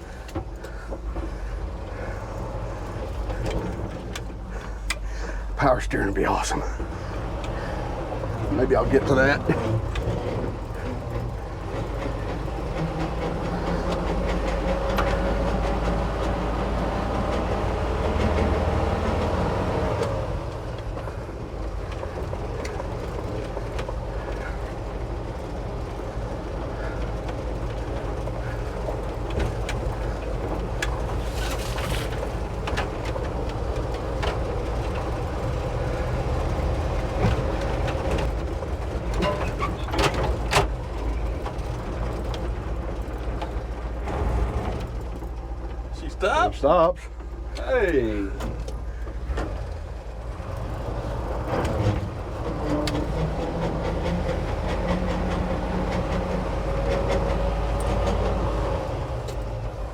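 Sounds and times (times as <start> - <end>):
road noise: 0.0 - 59.9
truck engine rumble: 0.0 - 59.9.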